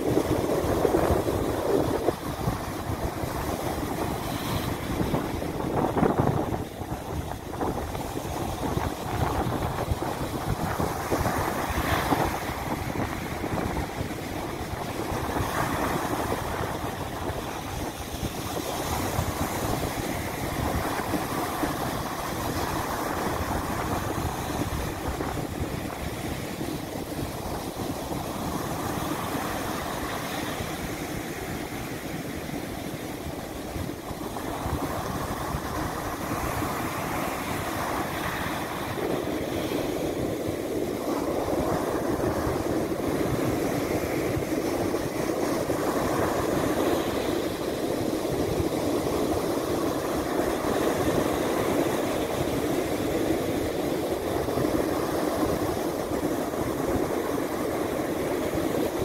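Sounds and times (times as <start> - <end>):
surf breaking on a beach: 0.0 - 59.0.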